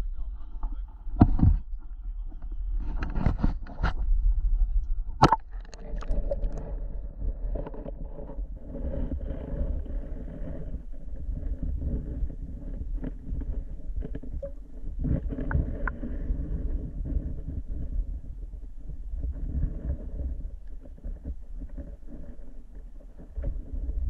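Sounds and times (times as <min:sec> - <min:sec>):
muffled underwater rumble: 0:00.0 - 0:24.0.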